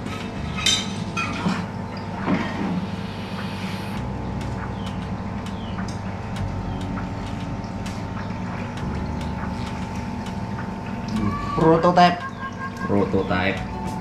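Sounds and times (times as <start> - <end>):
equipment humming: 0.0 - 14.0.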